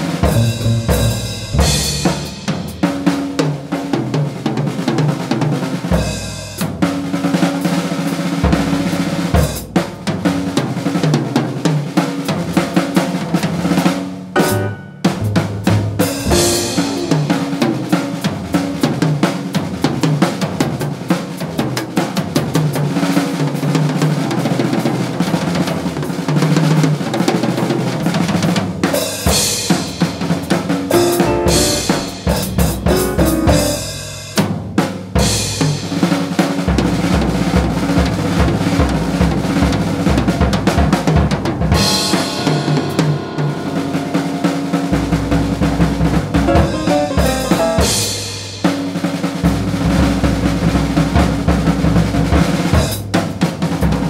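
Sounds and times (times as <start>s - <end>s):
jazz drum solo: 0.0s - 54.0s.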